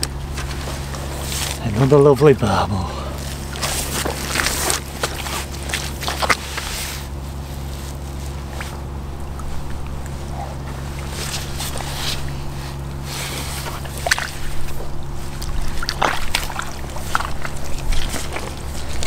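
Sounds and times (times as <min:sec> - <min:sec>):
river water splashing: 0:00.0 - 0:19.0
steady low hum: 0:00.0 - 0:19.0.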